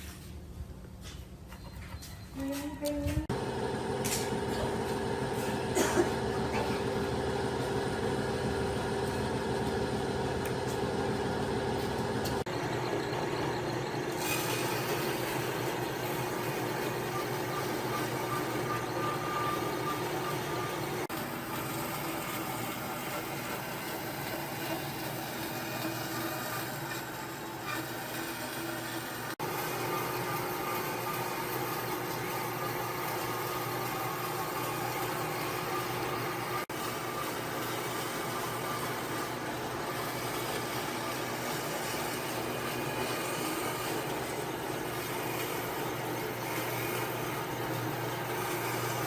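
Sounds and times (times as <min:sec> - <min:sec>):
workshop machine running: 0:00.0 - 0:49.0.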